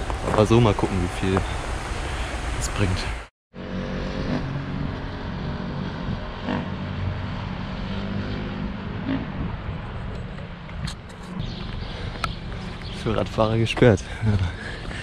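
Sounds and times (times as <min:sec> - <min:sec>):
road traffic drone: 0:00.0 - 0:15.0.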